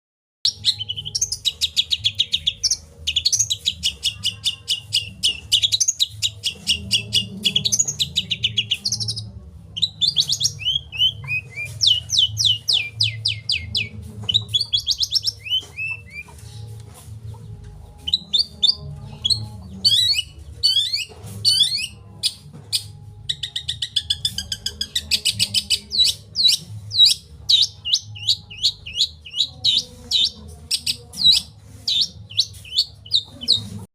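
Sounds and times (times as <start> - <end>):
songbirds singing: 0.5 - 33.9.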